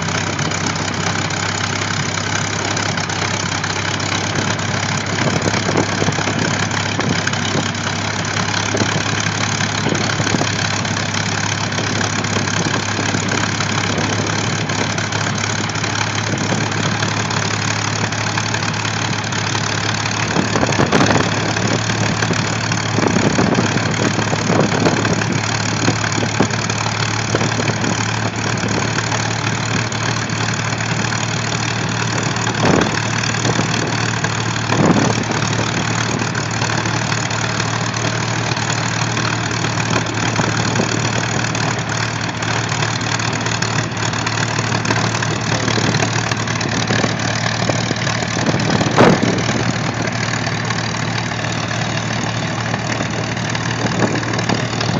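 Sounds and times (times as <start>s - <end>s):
propeller aircraft engine idling: 0.0s - 54.9s.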